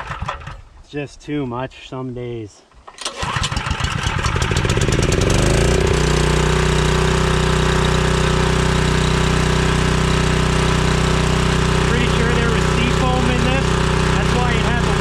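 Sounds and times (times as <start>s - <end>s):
generator engine starting and running: 0.0s - 0.6s, 2.9s - 15.0s.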